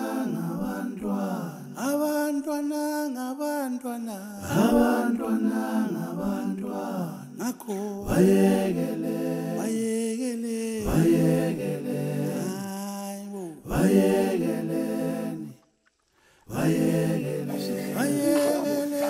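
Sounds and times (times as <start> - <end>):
voices singing in harmony: 0.0 - 2.7, 4.4 - 15.6, 16.4 - 19.0.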